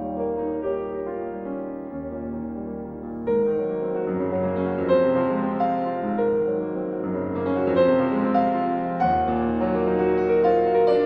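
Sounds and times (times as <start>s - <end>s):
piano instrumental music: 0.0s - 11.0s.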